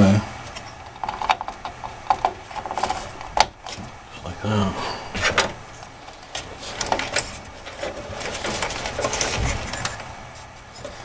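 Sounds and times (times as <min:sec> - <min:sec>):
cables rustling in metal case: 0:00.5 - 0:04.0, 0:05.2 - 0:11.0.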